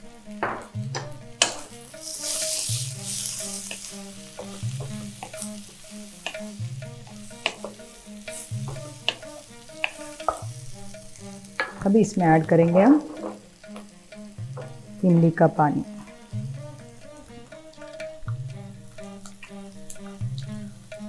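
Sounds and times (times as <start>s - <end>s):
food sizzling in hot oil: 0.0s - 21.0s
wooden spatula scraping pan: 0.3s - 18.2s.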